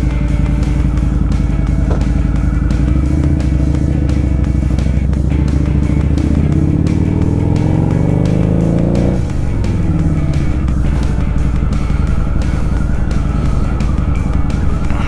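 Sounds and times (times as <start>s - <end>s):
background music: 0.0s - 15.0s
motorcycle engine idling: 0.0s - 15.0s.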